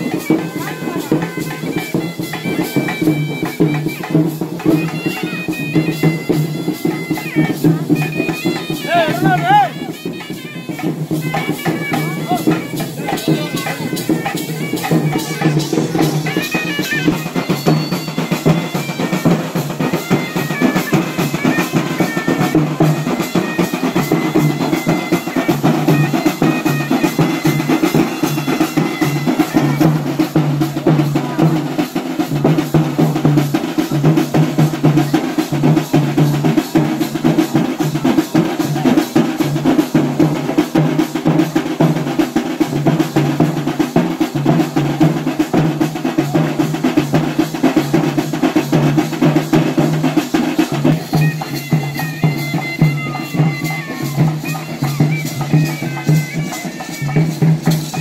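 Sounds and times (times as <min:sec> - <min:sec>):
drums beaten with sticks: 0:00.0 - 0:58.0.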